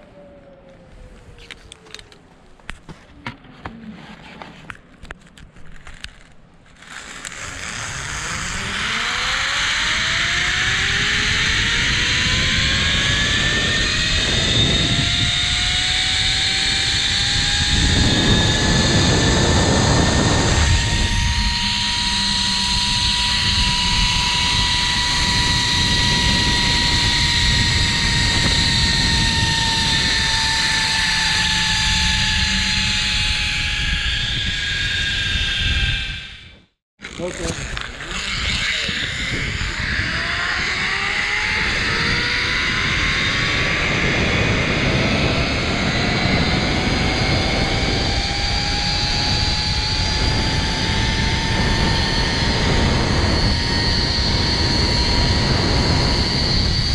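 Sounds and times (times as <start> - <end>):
zipline pulleys whining on cable: 4.7 - 56.9
wind on microphone: 6.8 - 56.9.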